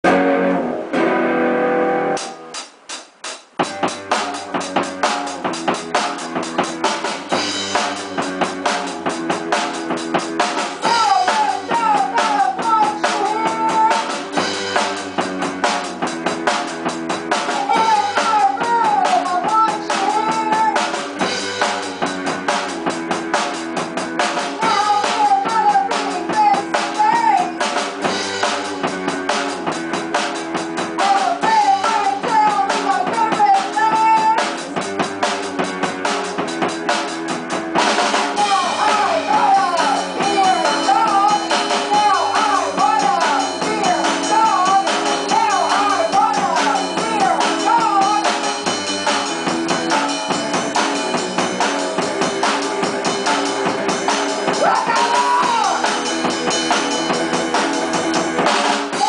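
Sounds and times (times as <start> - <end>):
bending lead guitar melody: 0.0 - 2.6, 3.6 - 59.0
rock band playing live: 0.0 - 59.0
drum hits: 2.1 - 59.0.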